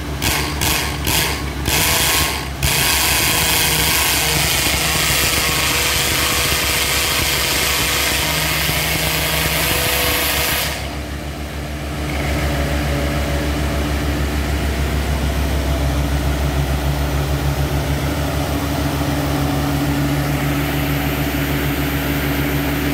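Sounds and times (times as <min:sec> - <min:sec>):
drilling rig engine running: 0:00.0 - 0:22.9.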